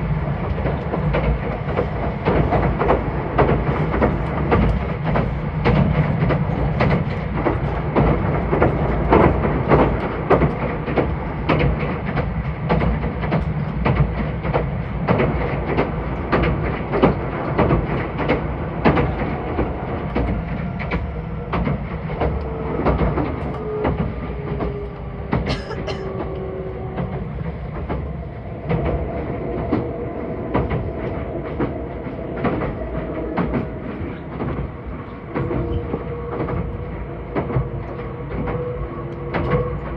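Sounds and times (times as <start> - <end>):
electric train rumbling: 0.0 - 39.9
wheels clicking over rail joints: 0.0 - 39.9.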